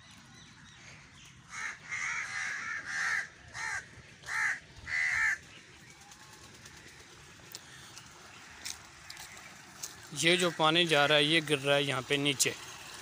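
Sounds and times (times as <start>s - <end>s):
bird calling: 0.0s - 11.2s.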